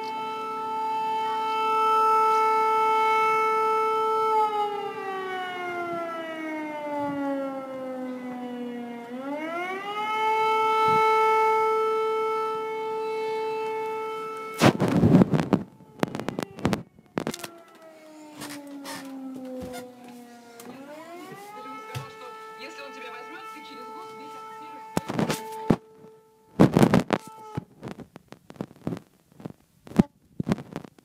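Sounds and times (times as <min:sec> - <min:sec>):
civil defence siren wailing: 0:00.0 - 0:27.8.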